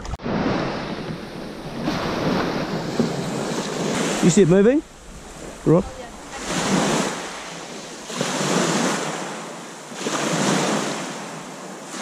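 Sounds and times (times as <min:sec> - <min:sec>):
small waves washing onto beach: 0:00.0 - 0:12.0.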